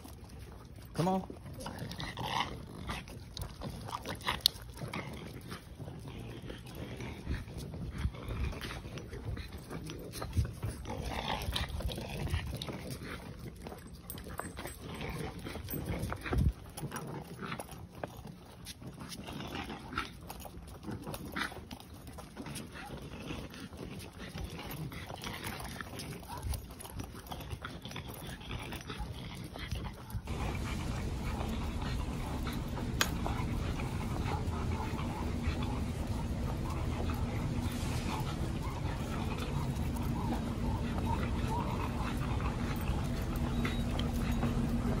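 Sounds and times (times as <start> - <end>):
clicks and rustles of tags and leashes: 0.0 - 45.0
dog breathing and snuffling: 0.0 - 45.0
low rumble of walking: 0.0 - 45.0.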